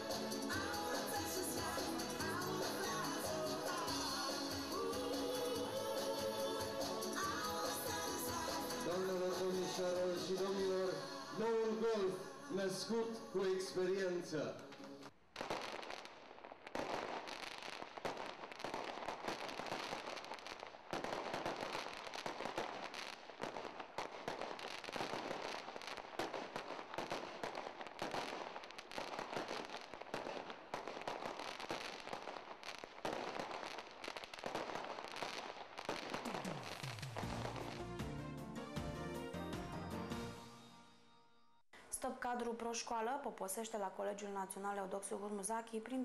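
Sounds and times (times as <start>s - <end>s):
fireworks crackling and banging: 0.0s - 39.2s.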